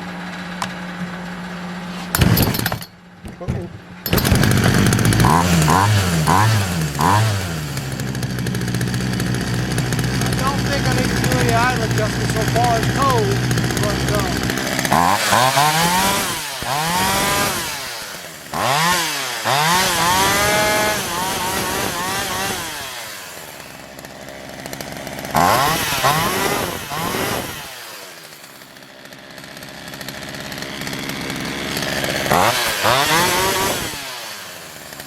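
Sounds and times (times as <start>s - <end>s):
chainsaw revving and idling: 4.0s - 35.0s.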